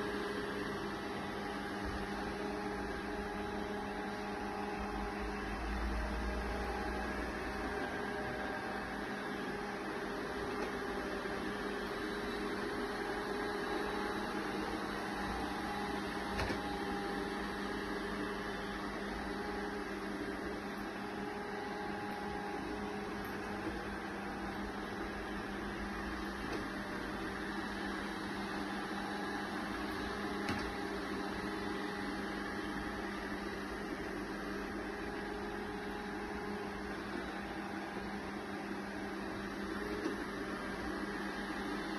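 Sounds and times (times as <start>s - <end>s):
robot vacuum motor hum: 0.0s - 41.9s.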